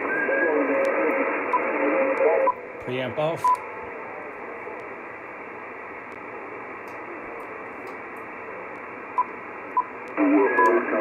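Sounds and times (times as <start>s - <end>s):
radio receiver hiss: 0.0s - 11.0s.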